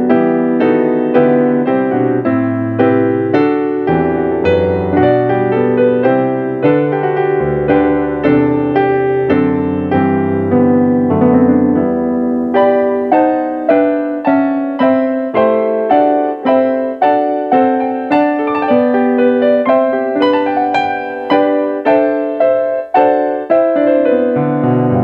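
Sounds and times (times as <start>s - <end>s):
piano chords: 0.0s - 25.0s.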